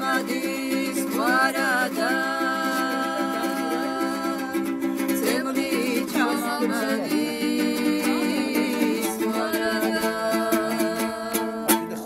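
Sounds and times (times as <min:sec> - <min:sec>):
strummed lute chords: 0:00.0 - 0:12.0
women singing: 0:00.0 - 0:12.0.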